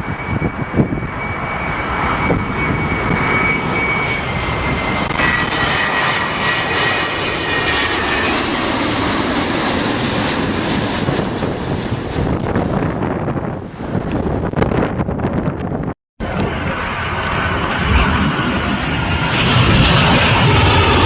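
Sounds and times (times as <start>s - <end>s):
airplane engines whining: 0.0s - 21.0s.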